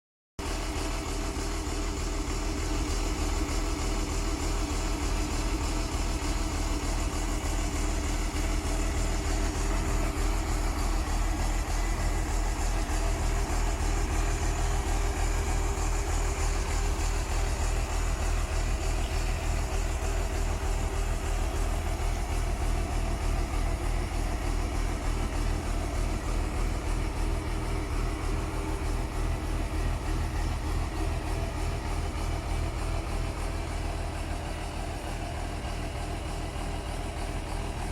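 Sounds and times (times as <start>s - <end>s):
diesel engine idling: 0.4s - 37.9s.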